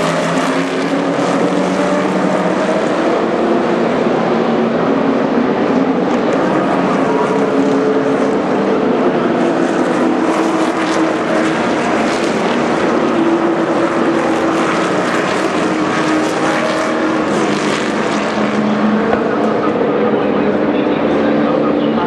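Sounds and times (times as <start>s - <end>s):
race truck engines droning: 0.0s - 22.0s.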